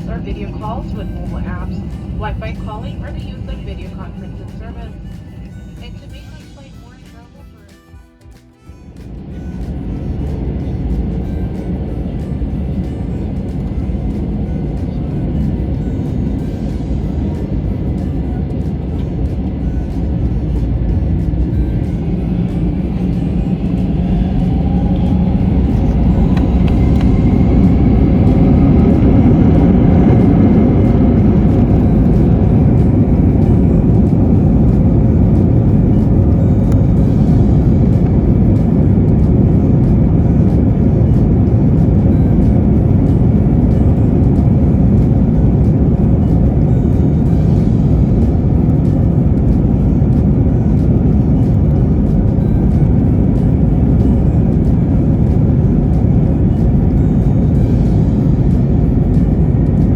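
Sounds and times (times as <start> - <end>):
jet engines spooling up: 0.0 - 7.5, 9.0 - 53.3.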